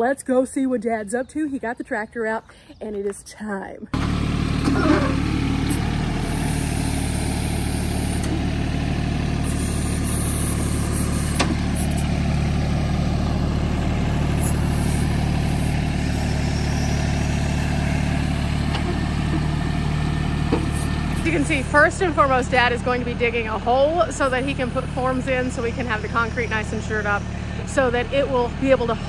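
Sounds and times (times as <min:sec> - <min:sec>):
tractor diesel engine running: 0:03.9 - 0:29.0.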